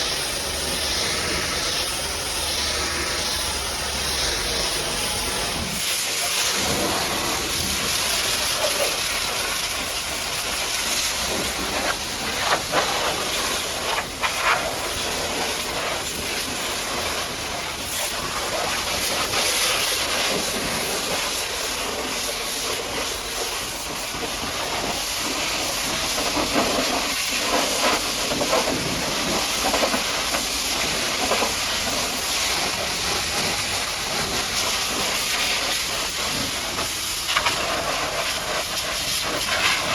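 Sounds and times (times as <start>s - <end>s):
pressure washer spraying: 0.0s - 39.9s.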